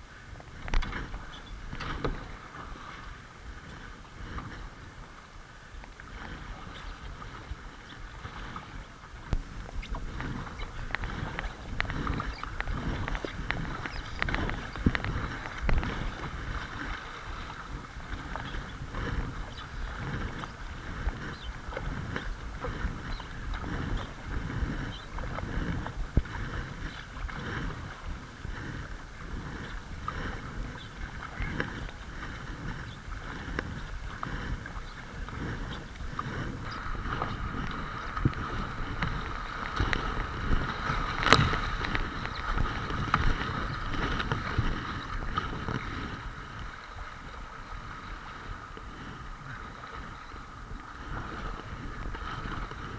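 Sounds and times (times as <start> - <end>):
paddle strokes in water: 0.0 - 52.9
wind buffeting microphone: 0.0 - 52.9.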